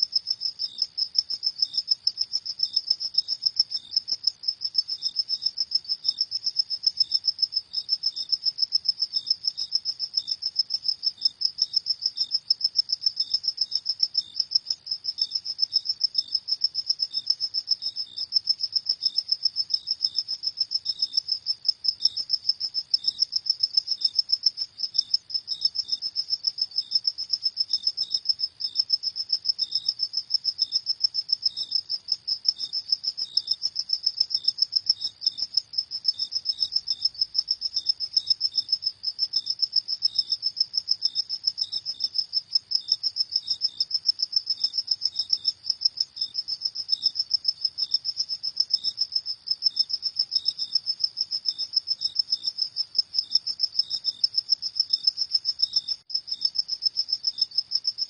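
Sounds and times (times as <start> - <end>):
crickets chirping: 0.0 - 58.0
fainter lower cricket chirping: 0.0 - 58.0.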